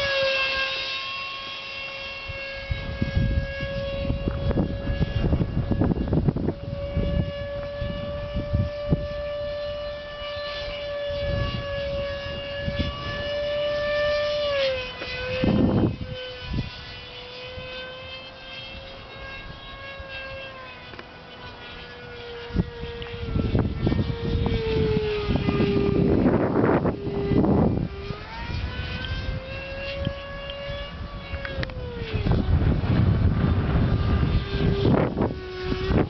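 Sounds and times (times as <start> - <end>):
electric ducted fan whining: 0.0 - 36.0
wind buffeting microphone: 1.8 - 36.0.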